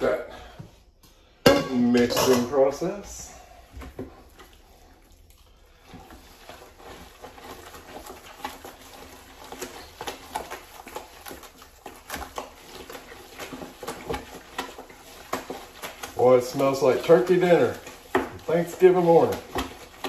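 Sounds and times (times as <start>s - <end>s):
thick mixture squelching: 0.0s - 20.0s
spoon scraping pot: 1.5s - 4.6s, 5.8s - 20.0s.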